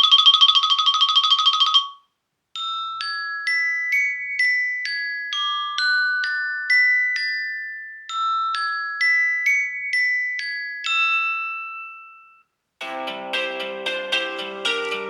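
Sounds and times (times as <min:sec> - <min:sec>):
phone ringtone mallet melody: 0:00.0 - 0:15.0.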